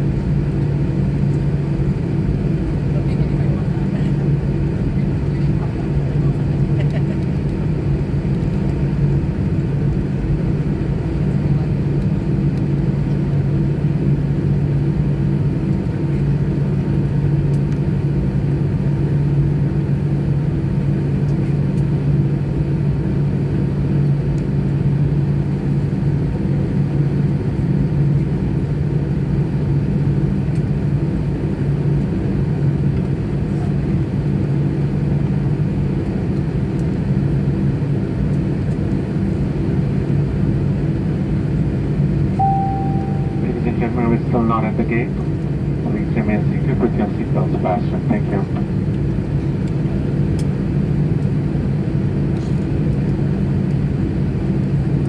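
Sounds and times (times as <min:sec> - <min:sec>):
airplane cabin engine hum: 0:00.0 - 0:55.0.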